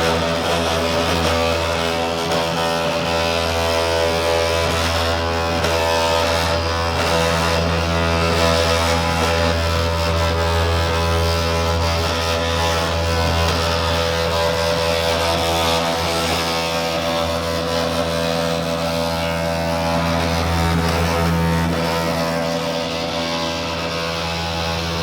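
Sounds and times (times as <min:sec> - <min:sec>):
robotic mower cutting disc humming: 0:00.0 - 0:25.0.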